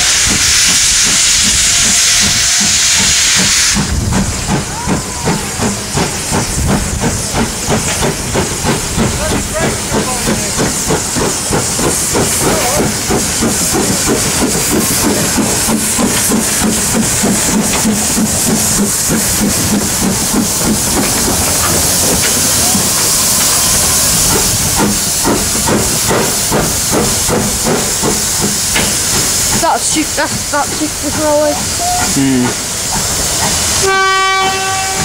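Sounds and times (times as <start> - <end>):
steam engine exhaust chuffing: 0.0 - 35.0
steam hissing: 0.0 - 35.0.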